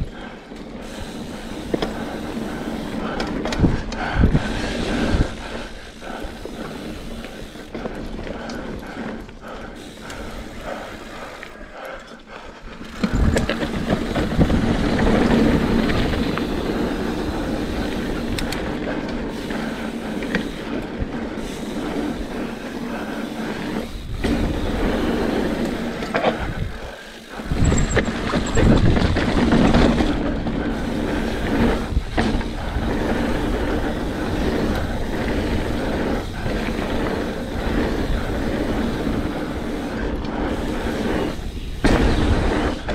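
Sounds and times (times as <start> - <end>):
bike rattling: 0.0 - 42.9
bike tyres rumbling on dirt: 0.0 - 42.9.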